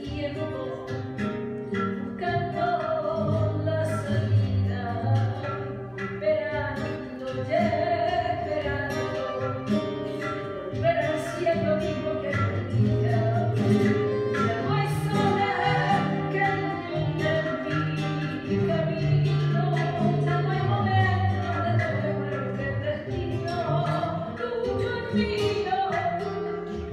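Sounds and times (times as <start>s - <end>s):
acoustic guitar chords: 0.0s - 26.9s.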